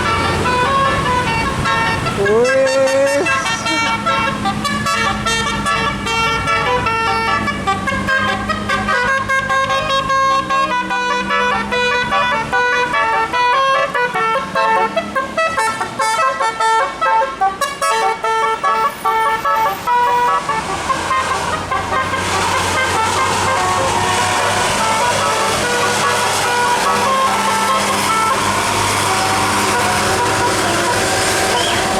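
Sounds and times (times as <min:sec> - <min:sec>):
bus horn melody: 0:00.0 - 0:31.9.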